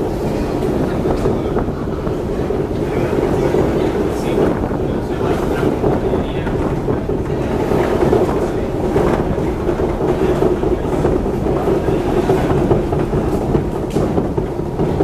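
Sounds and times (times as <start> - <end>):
metro train rumbling in tunnel: 0.0 - 15.0.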